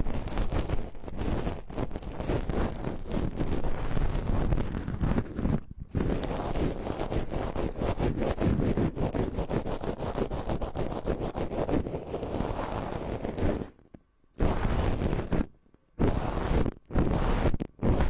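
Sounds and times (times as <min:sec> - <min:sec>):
rubbing and scratching on microphone: 0:00.0 - 0:18.0.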